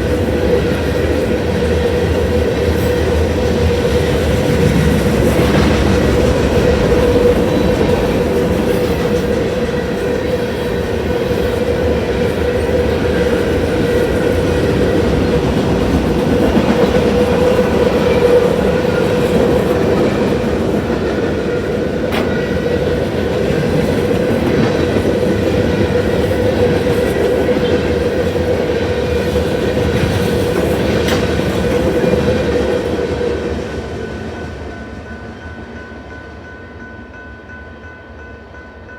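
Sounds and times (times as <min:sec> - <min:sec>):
train wheels rumbling on rails: 0:00.0 - 0:36.2.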